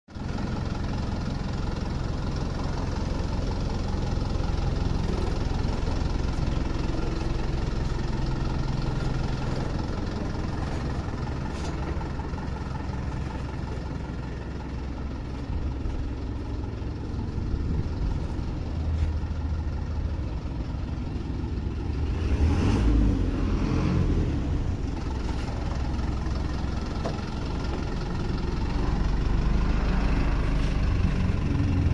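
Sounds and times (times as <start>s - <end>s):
diesel truck engine idling: 0.1s - 31.9s.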